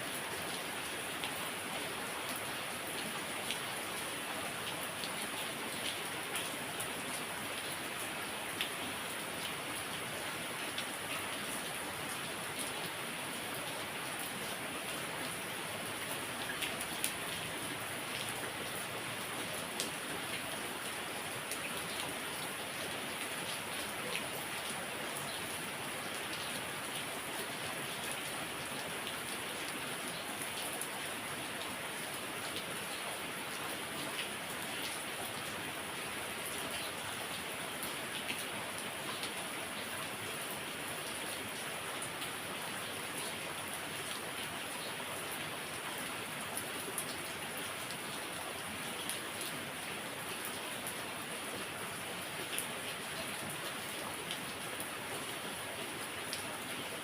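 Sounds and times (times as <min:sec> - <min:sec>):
raindrops ticking on surfaces: 0:00.2 - 0:54.9.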